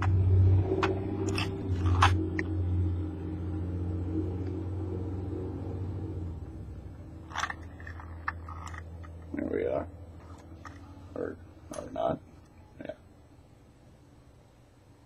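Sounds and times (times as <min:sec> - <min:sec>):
low engine rumble: 0:00.0 - 0:13.6.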